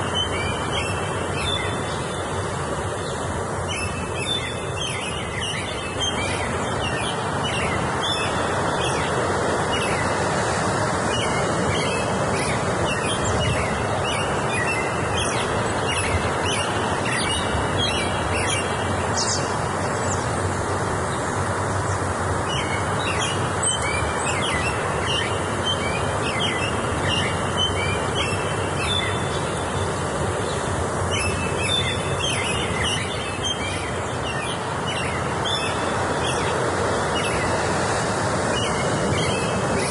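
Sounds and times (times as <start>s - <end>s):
birds singing: 0.0s - 39.9s
steady rushing noise: 0.0s - 39.9s.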